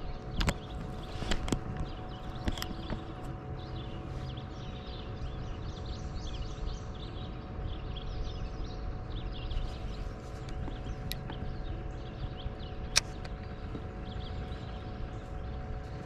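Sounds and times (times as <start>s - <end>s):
faint steady hum: 0.0s - 16.0s
low steady rumble: 0.0s - 16.0s
songbirds chirping and trilling: 0.0s - 16.0s.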